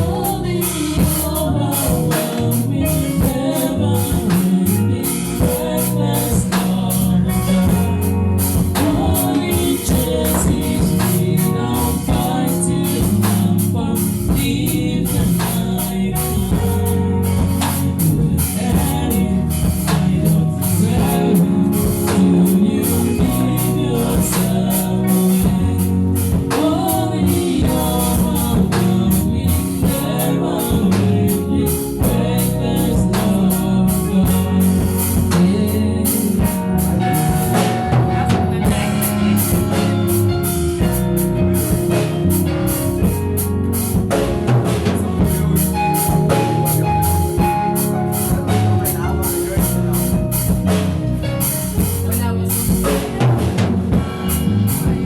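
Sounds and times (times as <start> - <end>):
drum kit beats: 0.0 - 55.0
gospel singing: 0.0 - 55.0.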